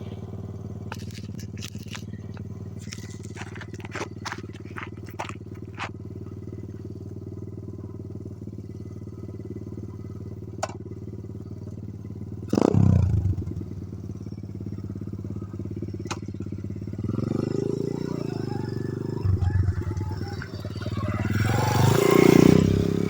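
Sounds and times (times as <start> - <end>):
pit bike engine running: 0.0 - 23.0.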